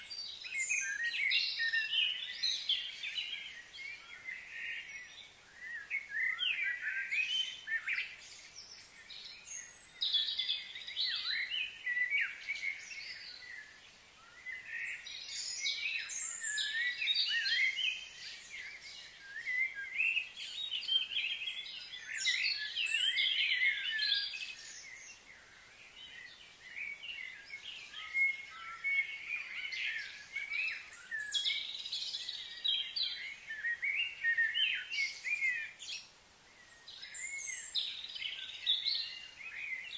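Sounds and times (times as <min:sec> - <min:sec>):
birds chirping and calling: 0:00.0 - 0:39.9
steady high-pitched hiss: 0:00.0 - 0:39.9.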